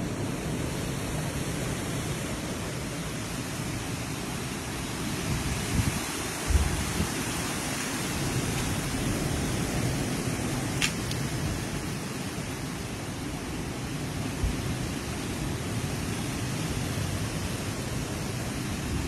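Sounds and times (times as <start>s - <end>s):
heavy rain: 0.0s - 19.0s
wind: 0.0s - 19.0s.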